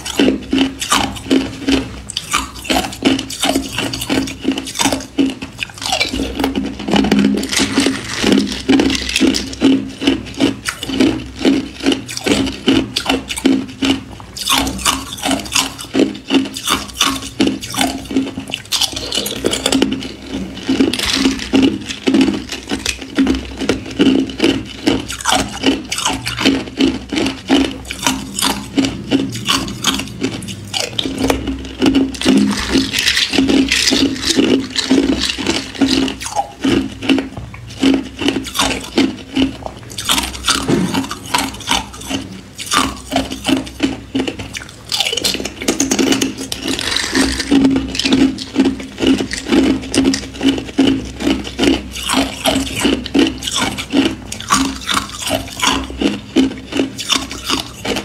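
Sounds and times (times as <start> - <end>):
ice cubes being crunched: 0.0 - 58.0.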